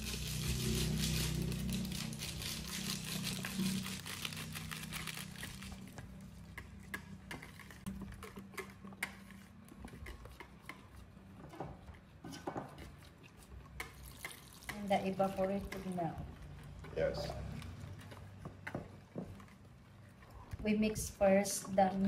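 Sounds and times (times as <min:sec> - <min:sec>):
spoon scraping in a bowl: 0:00.0 - 0:04.4, 0:05.9 - 0:20.5.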